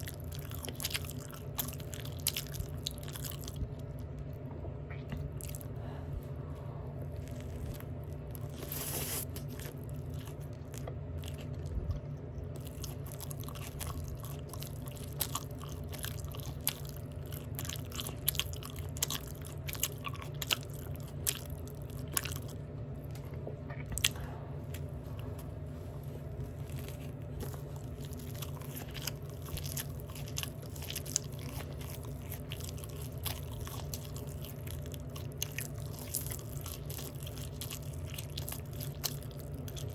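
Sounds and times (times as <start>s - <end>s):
open-mouth chewing: 0.0s - 5.8s, 7.0s - 25.6s, 26.2s - 39.9s
steady low hum: 0.0s - 39.9s.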